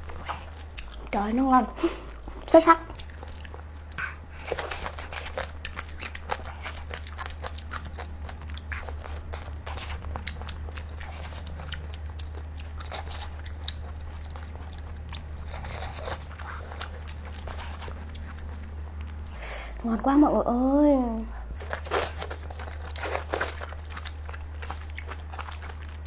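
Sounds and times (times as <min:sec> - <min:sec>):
crunching bites and chewing: 0:00.0 - 0:01.2, 0:02.1 - 0:19.3, 0:21.4 - 0:26.0
low hum: 0:00.0 - 0:26.0.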